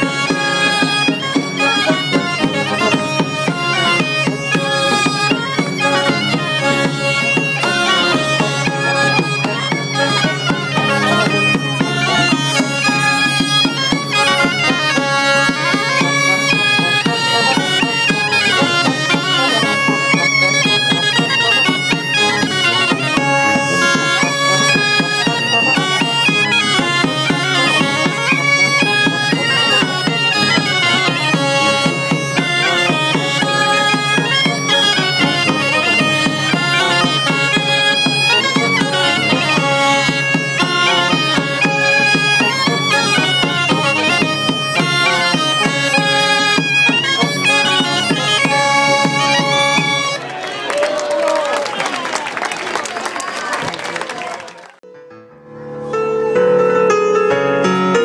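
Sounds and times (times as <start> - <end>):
bagpipe playing a dance tune: 0.0 - 50.3.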